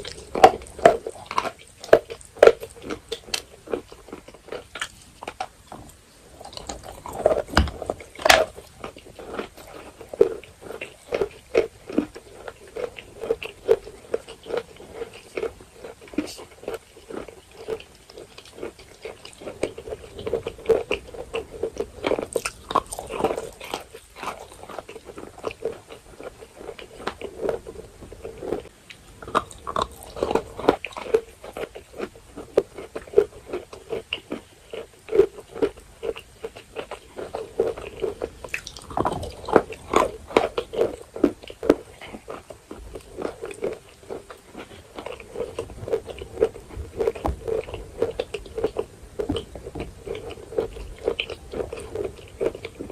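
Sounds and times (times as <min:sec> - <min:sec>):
chalk being chewed: 0:00.0 - 0:52.9.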